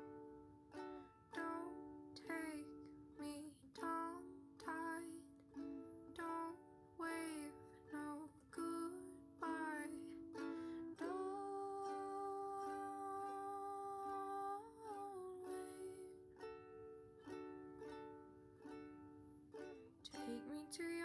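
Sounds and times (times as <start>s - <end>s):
ukulele chords plucked: 0.0s - 21.0s.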